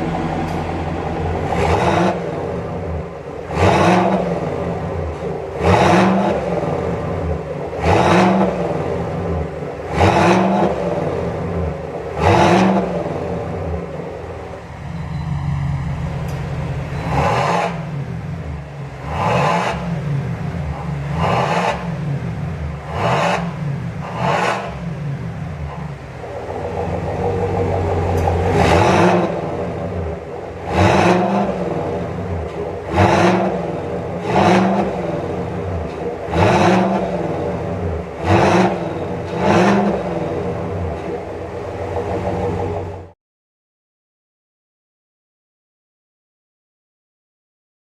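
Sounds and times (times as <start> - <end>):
engine idling and revving: 0.0 - 43.2.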